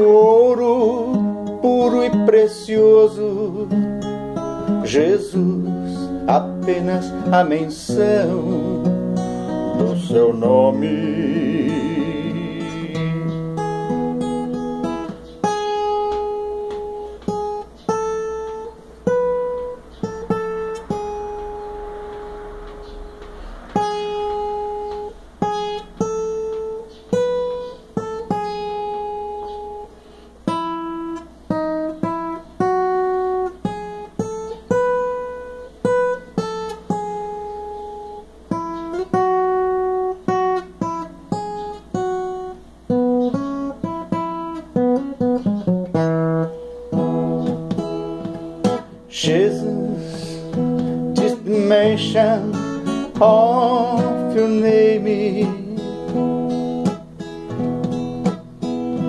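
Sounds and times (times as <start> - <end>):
acoustic guitar melody: 0.0 - 59.0.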